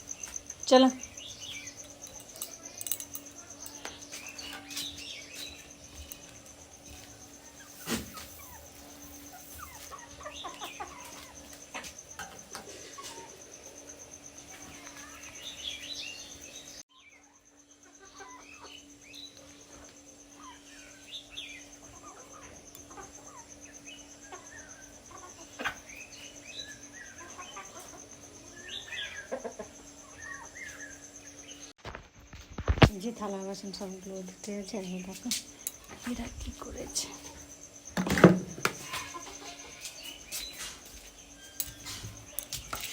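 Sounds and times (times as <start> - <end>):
birds chirping and calling: 0.0 - 31.7, 33.2 - 42.9.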